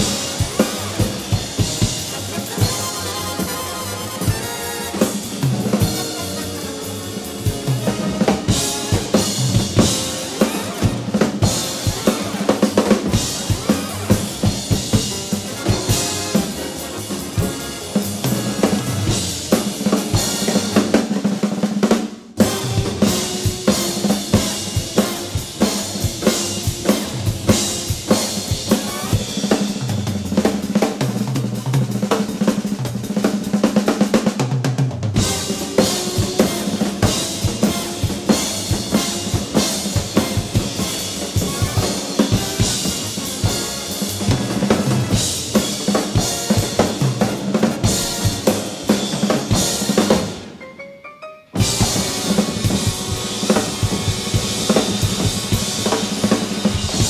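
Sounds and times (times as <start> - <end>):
big band horns and bass: 0.0 - 50.6, 51.5 - 57.0
swing drum kit: 0.0 - 50.6, 51.5 - 57.0.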